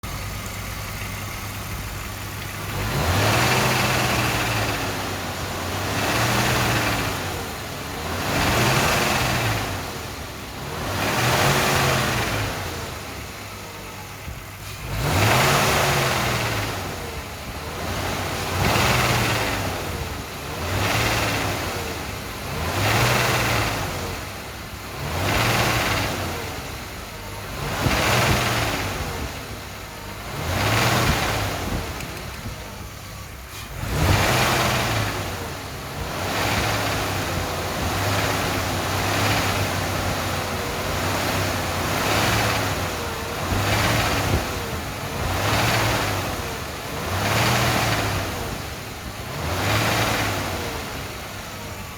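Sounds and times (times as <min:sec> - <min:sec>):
car engine idling and revving: 0:00.0 - 0:51.9
engine knocking: 0:00.0 - 0:51.9.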